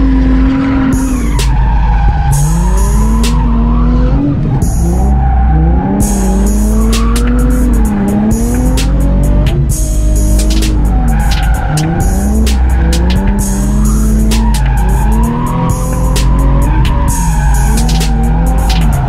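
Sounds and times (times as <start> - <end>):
background music with steady beat: 0.0 - 19.0
car engine revving: 0.0 - 19.0
tyres squealing: 0.0 - 19.0.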